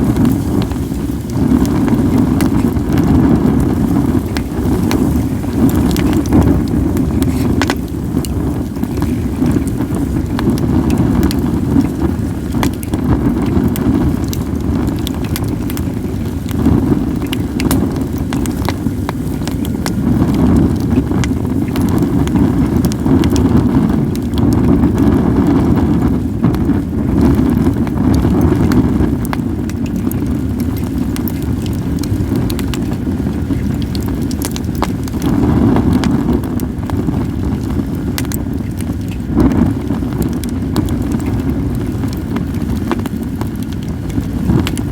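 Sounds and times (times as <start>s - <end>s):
firewood crackling and popping: 0.0s - 44.9s
wind rumble on microphone: 0.0s - 44.9s.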